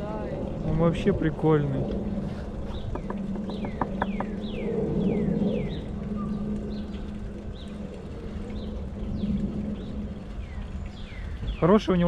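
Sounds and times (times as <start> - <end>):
steady low hum: 0.0 - 11.4
birds chirping: 0.0 - 12.0.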